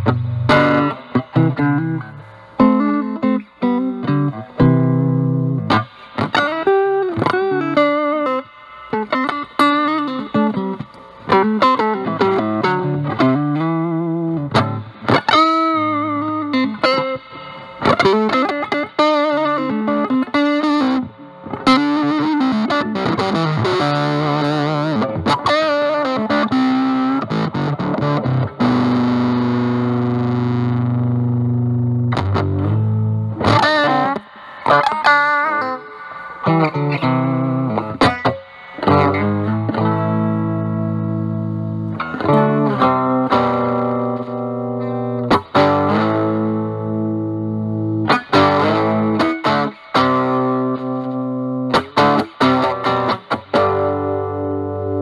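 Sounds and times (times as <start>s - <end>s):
fuzzy electric guitar lead: 0.0s - 55.0s.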